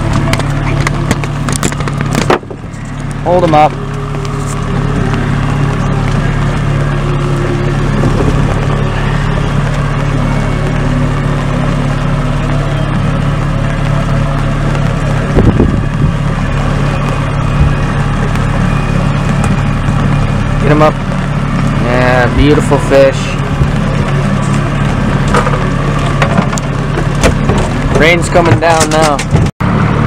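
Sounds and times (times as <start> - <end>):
outboard motor humming: 0.0 - 30.0.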